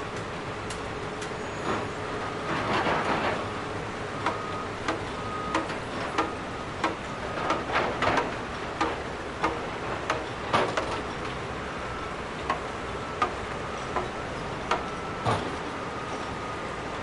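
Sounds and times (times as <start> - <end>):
rumbling background noise: 0.0 - 17.0.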